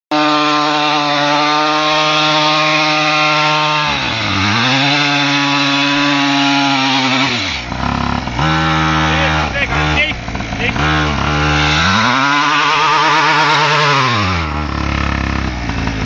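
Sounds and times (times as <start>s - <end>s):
small engine at high revs: 0.1s - 16.0s.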